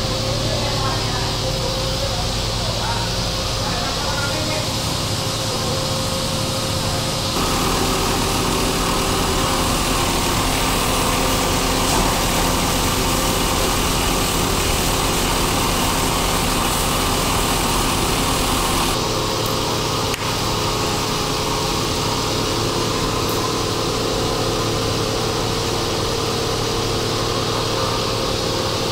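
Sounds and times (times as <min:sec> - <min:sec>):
pasta machinery humming and whirring: 0:00.0 - 0:28.9.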